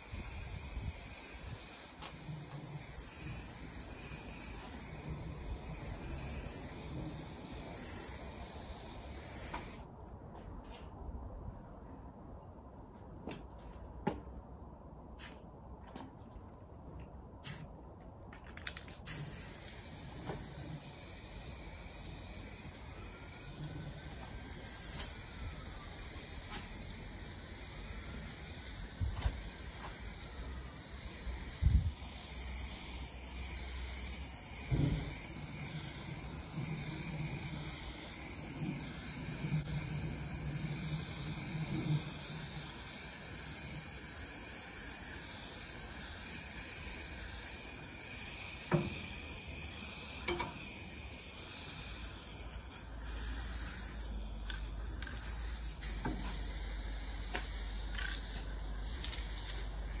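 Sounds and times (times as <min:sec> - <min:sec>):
spray paint can hissing: 0:00.0 - 0:09.9, 0:15.2 - 0:15.4, 0:17.4 - 0:17.7, 0:18.8 - 1:00.0.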